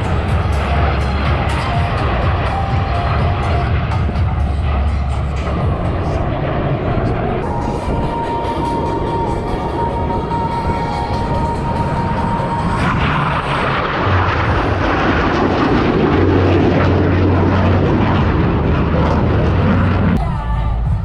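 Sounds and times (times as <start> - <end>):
jet flying by: 0.0 - 20.4.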